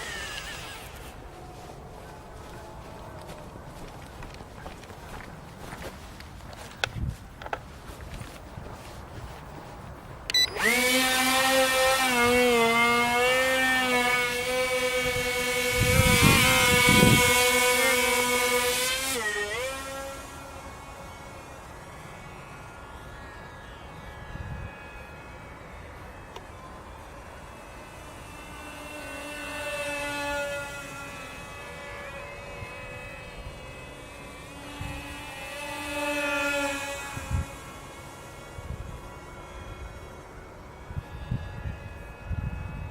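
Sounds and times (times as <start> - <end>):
electric motors and propellers whining: 0.0 - 42.9.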